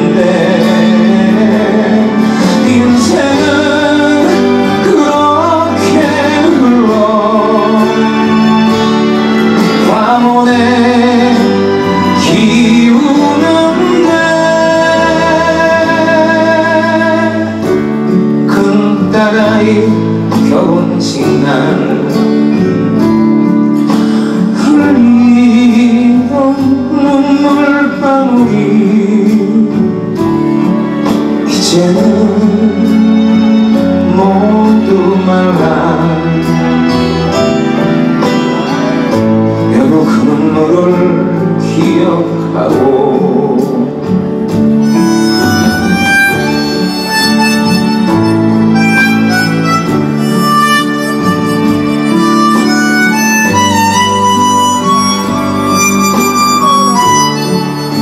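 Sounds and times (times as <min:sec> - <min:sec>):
harmonica melody: 0:00.0 - 0:29.1, 0:29.7 - 0:42.5, 0:43.8 - 0:58.0
acoustic guitar: 0:00.0 - 0:58.0
man singing: 0:00.0 - 0:58.0.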